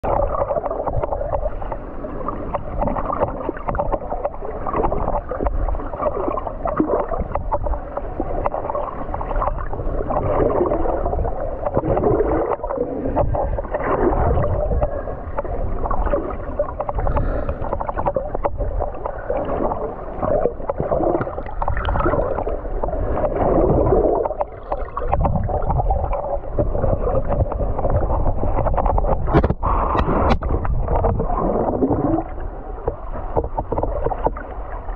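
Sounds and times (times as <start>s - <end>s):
underwater gurgling and sloshing: 0.0s - 34.9s.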